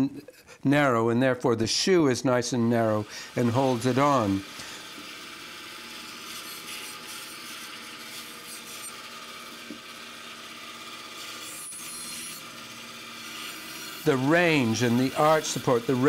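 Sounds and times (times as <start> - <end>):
bandsaw cutting wood: 2.4 - 16.0.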